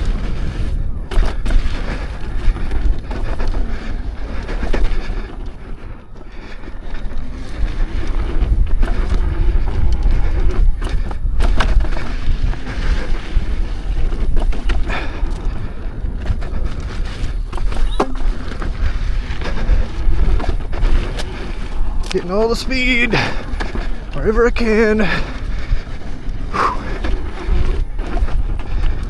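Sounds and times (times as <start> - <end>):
knocks and rattles over bumps: 0.0 - 29.0
tyre noise on dirt trail: 0.0 - 29.0
wind buffeting microphone: 0.0 - 29.0.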